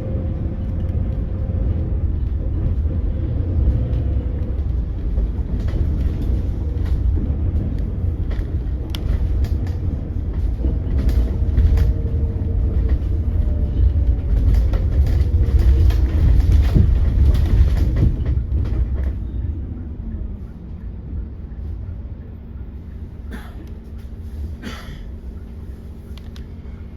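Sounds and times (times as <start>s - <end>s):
road rumble and body rattles: 0.0s - 26.9s.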